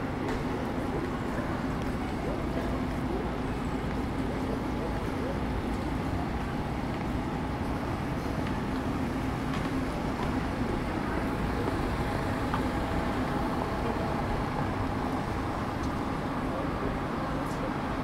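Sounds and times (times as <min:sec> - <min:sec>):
city street traffic rumble: 0:00.0 - 0:18.0
faint engine hum: 0:00.0 - 0:18.0.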